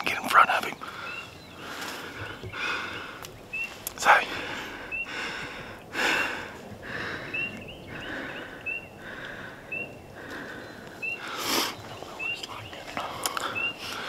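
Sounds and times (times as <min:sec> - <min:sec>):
wind in trees: 0:00.0 - 0:14.0.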